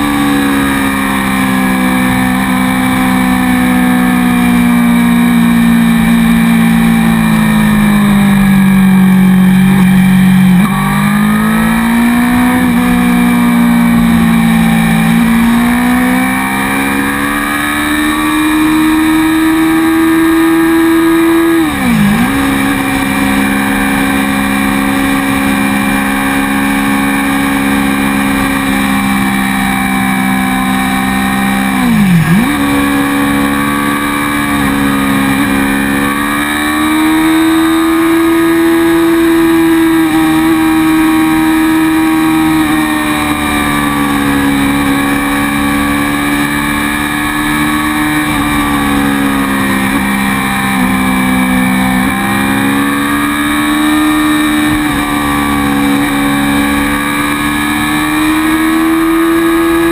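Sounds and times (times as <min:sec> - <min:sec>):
motorcycle engine running: 0:00.0 - 0:59.9
road noise: 0:00.0 - 0:59.9.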